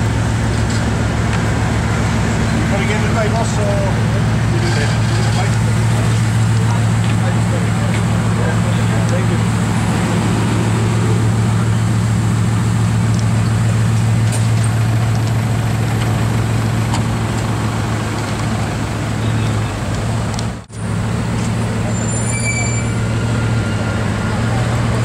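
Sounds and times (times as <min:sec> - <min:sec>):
car engine idling: 0:00.0 - 0:22.1.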